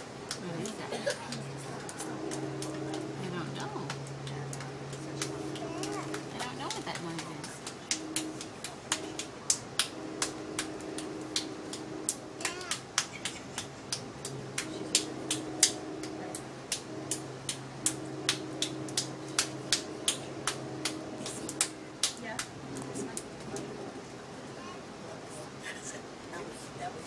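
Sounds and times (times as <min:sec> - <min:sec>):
train wheels clicking and knocking: 0:00.0 - 0:23.6
train interior hum: 0:00.0 - 0:27.0.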